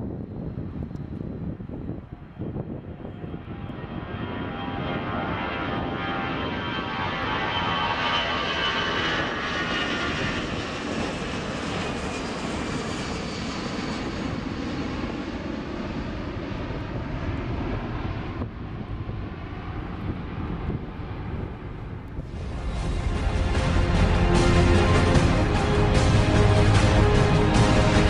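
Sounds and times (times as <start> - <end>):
high jet whine: 0.0 - 28.0
jet engines roaring overhead: 0.0 - 28.0.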